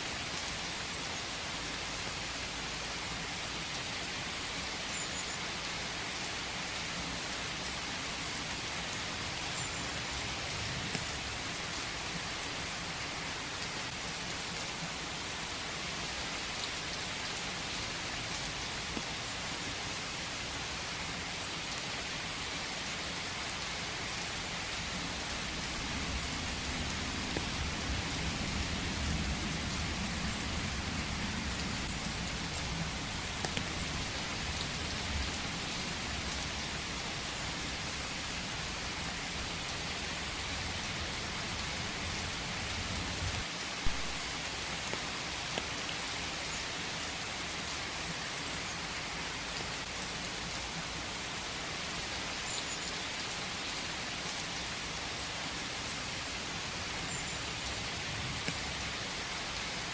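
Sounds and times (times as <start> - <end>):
rain falling in a forest: 0.0 - 59.9.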